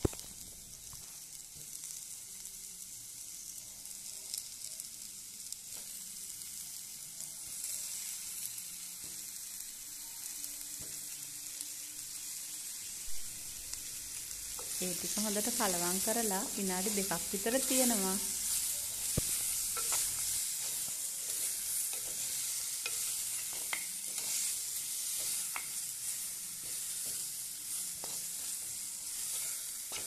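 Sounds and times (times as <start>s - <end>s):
onions sizzling in hot oil: 0.0s - 30.0s.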